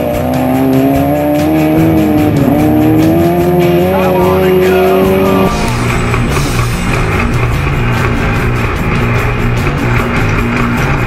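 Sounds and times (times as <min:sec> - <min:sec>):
race buggy engine running hard: 0:00.0 - 0:11.0.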